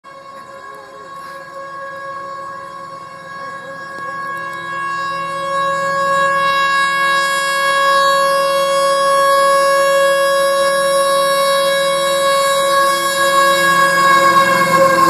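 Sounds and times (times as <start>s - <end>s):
diesel locomotive horn blast: 0.0s - 15.0s.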